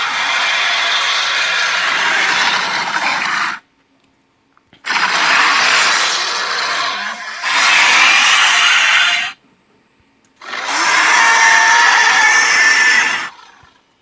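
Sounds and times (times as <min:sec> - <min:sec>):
dragon roar: 0:00.0 - 0:03.6, 0:04.9 - 0:09.4, 0:10.4 - 0:13.7.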